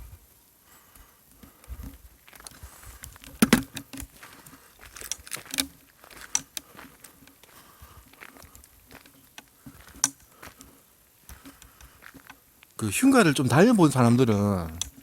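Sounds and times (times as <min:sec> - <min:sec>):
footsteps crunching over debris: 0:00.2 - 0:15.0.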